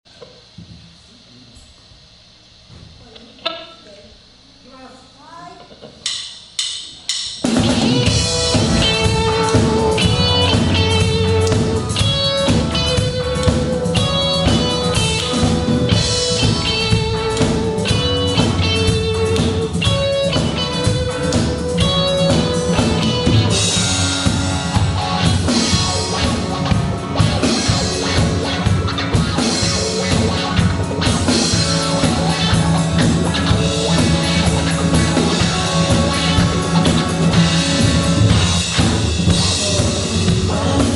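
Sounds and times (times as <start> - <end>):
band playing: 6.1 - 40.9.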